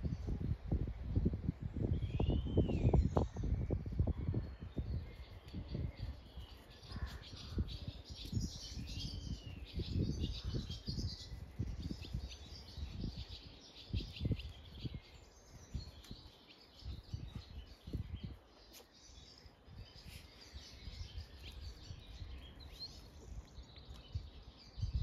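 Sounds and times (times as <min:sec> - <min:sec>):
birds chirping and singing: 0:01.2 - 0:25.0.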